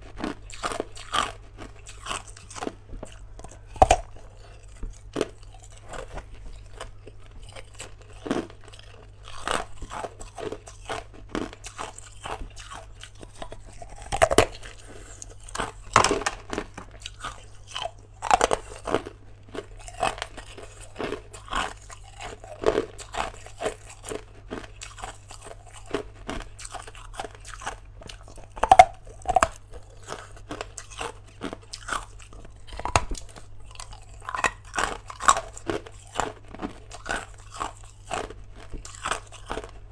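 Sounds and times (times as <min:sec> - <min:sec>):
faint low hum: 0:00.0 - 0:39.9
person crunching ice: 0:00.2 - 0:39.8.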